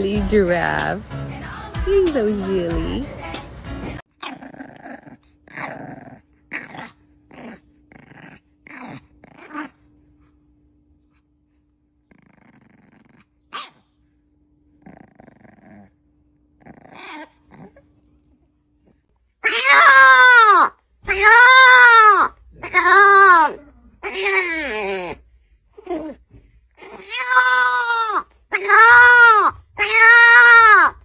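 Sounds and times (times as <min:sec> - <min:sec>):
puppy growling and yipping: 0:04.0 - 0:10.4, 0:11.9 - 0:31.0.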